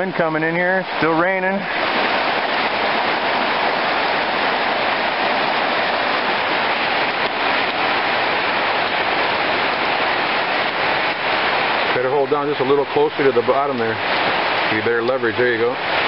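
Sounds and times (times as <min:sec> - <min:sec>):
heavy rain on concrete: 0:00.0 - 0:16.0.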